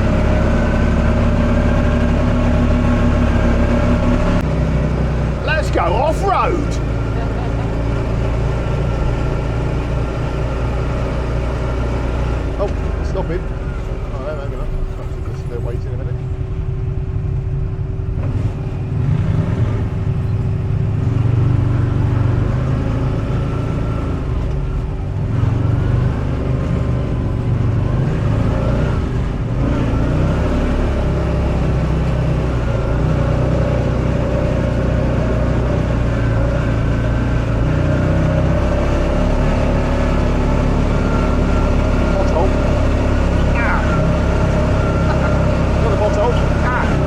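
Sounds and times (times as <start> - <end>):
buggy engine revving: 0.0 - 47.0.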